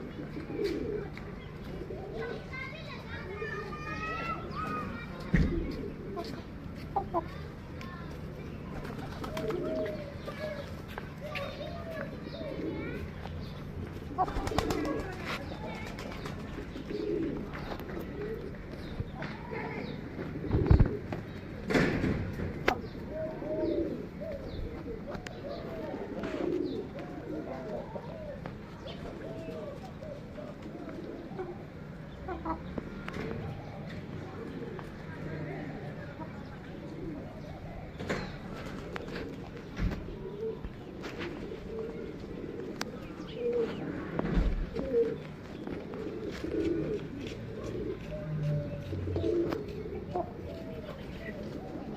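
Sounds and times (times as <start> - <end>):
pigeons cooing: 0.0 - 7.6, 8.4 - 51.9.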